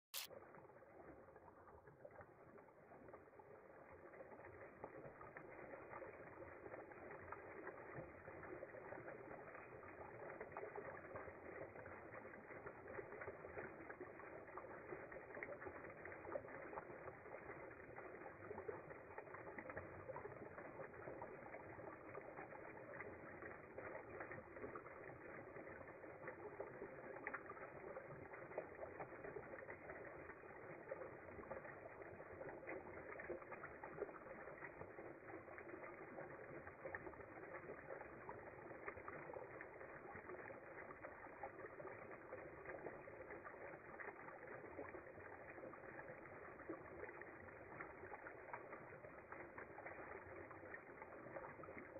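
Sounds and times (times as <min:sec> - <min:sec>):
water trickling over rocks: 0:00.1 - 0:51.9.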